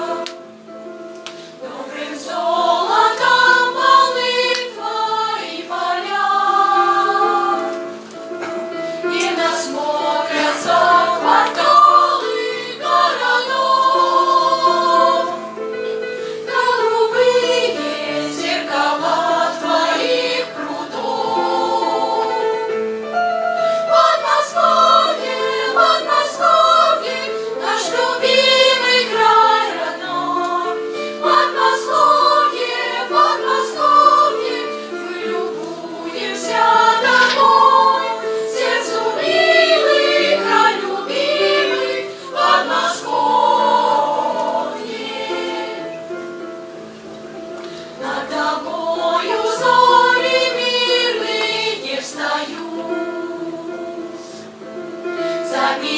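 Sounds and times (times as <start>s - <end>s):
children's choir singing: 0.0s - 55.9s.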